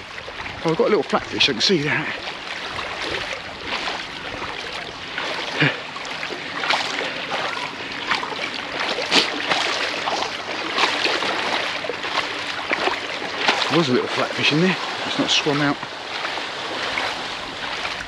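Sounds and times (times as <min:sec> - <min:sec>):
shallow water swishing: 0:00.0 - 0:18.0
water splashes: 0:00.0 - 0:18.0.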